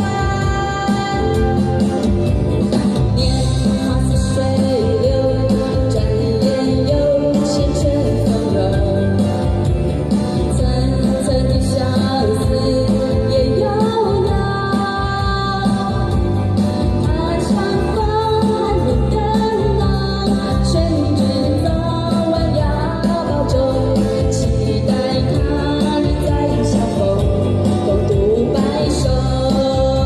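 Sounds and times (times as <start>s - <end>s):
person singing: 0.0s - 9.7s, 10.4s - 30.0s
guitar: 0.0s - 30.0s.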